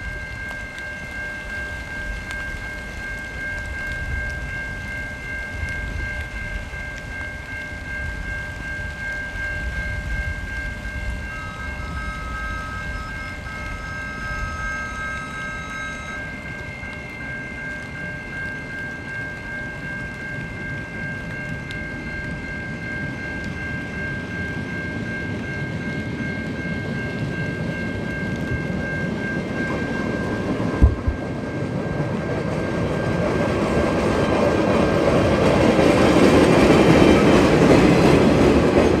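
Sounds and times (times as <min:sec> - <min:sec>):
freight train rumbling: 0:00.0 - 0:39.0
high-pitched ringing tones: 0:00.0 - 0:39.0.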